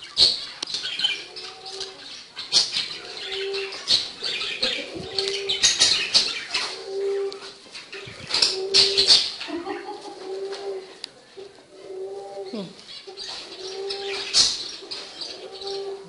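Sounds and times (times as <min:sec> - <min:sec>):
pet birds chirping: 0:00.0 - 0:16.0.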